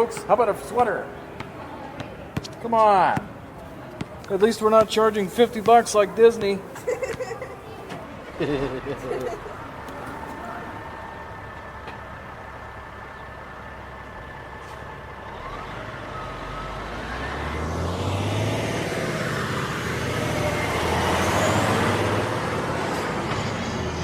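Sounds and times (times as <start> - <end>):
large vehicle engine rumbling: 3.4 - 24.0.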